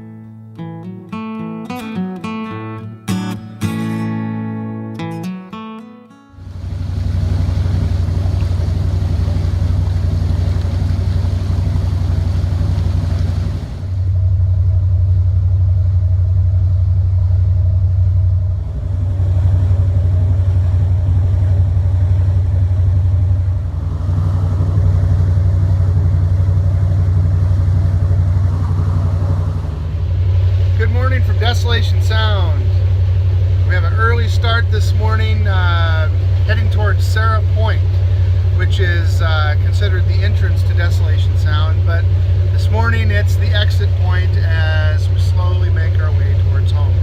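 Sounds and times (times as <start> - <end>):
boat engine droning: 6.3 - 47.0.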